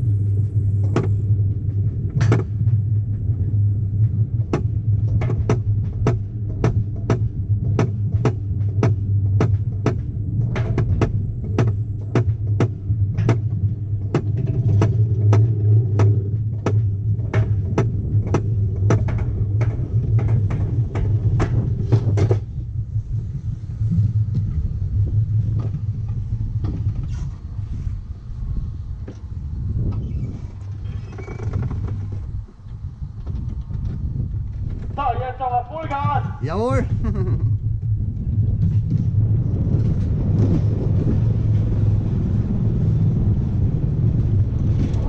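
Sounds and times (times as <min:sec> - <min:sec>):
sled wheels rumbling on rails: 0:00.0 - 0:45.0.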